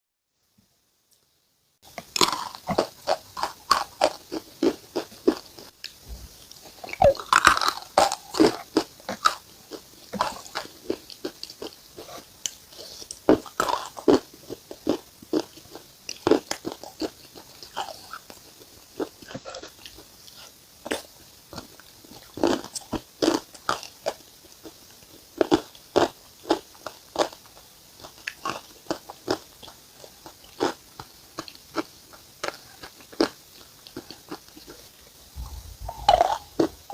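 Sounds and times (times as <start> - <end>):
person chewing crunchy food: 1.9 - 36.9.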